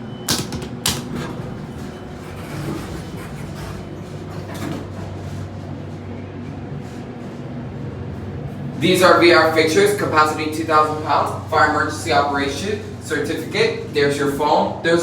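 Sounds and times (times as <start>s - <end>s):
elevator doors sliding open: 0.0s - 15.0s
steady low hum: 0.0s - 15.0s.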